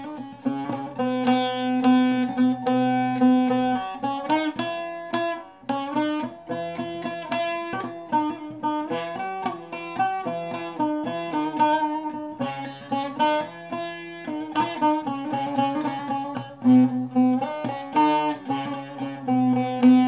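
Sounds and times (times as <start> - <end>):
plucked long-necked lute melody: 0.0 - 20.0.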